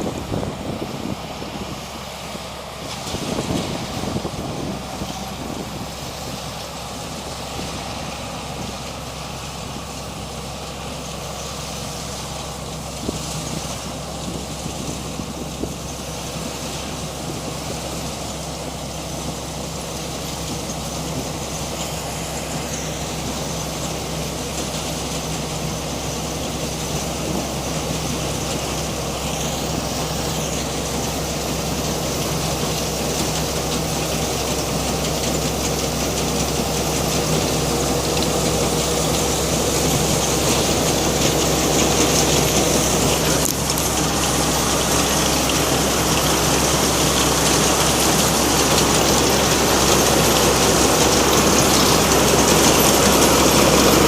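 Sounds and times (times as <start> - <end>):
combine harvester engine running: 0.0 - 54.0.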